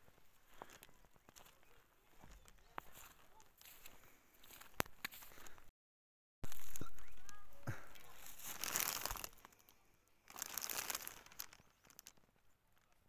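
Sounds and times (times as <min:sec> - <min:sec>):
footsteps crunching in snow: 0:00.0 - 0:05.7, 0:06.4 - 0:09.5, 0:10.3 - 0:12.1.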